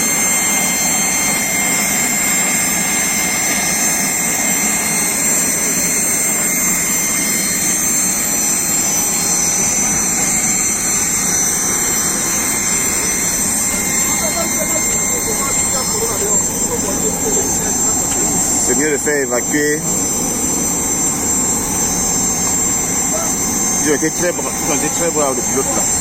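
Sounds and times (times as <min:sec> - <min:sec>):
jet turbine whining: 0:00.0 - 0:26.0.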